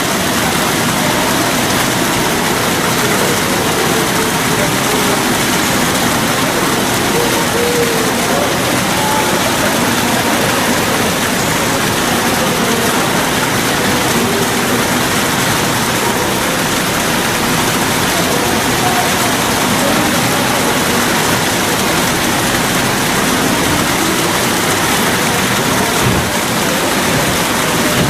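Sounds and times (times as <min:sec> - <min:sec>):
faint distant voices: 0:00.0 - 0:28.0
loud rushing noise: 0:01.6 - 0:28.0.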